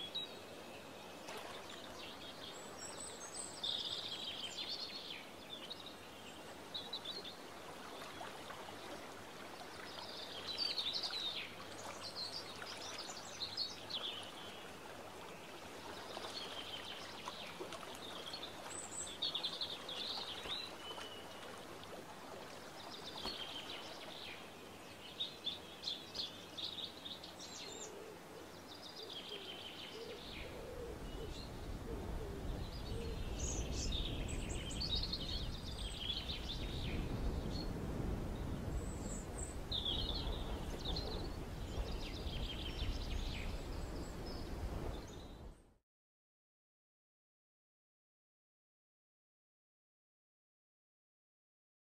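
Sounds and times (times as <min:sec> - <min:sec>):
songbird singing: 0:00.0 - 0:45.6.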